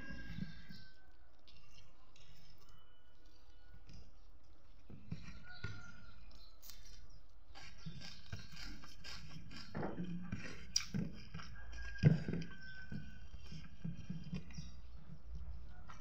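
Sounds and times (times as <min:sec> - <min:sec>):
chewing and mouth smacks: 0:00.4 - 0:04.9, 0:05.9 - 0:14.7.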